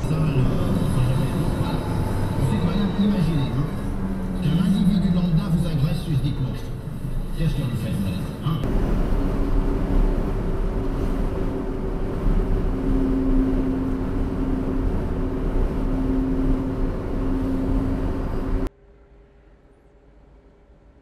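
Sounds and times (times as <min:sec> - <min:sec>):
road and engine rumble in truck cab: 0:00.0 - 0:18.8
steady droning hum: 0:00.0 - 0:20.9.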